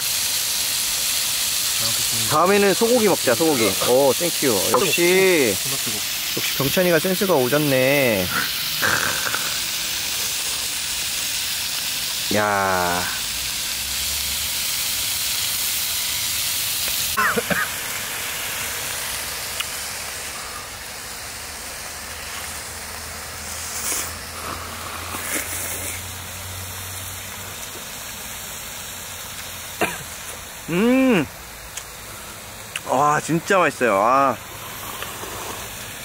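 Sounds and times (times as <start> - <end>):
pork sizzling in a frying pan: 0.0 - 36.0.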